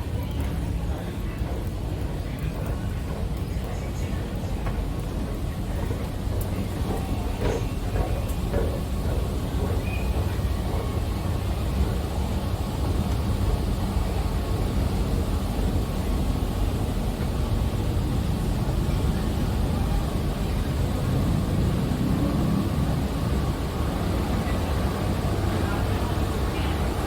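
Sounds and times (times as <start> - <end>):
underground metro train rumbling: 0.0 - 27.0.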